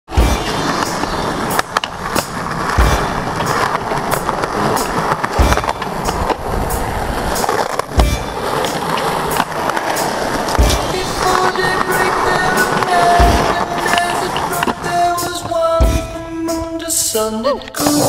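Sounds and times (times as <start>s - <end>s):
skateboard popping and landing: 0.1s - 18.0s
skateboard wheels rolling on asphalt: 0.1s - 18.0s.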